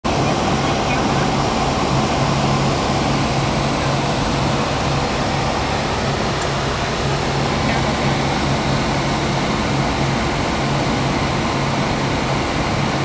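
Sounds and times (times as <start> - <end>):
aircraft engine and propeller: 0.0 - 13.0.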